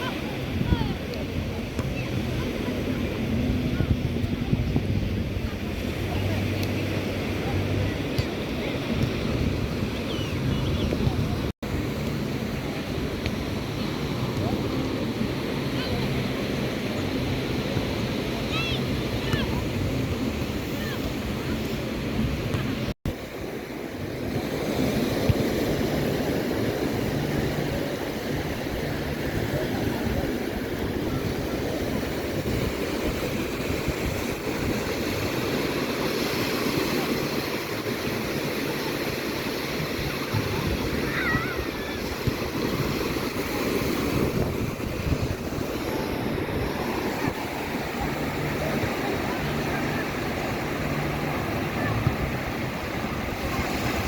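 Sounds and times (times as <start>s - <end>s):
ocean surf washing onto beach: 0.0s - 54.0s.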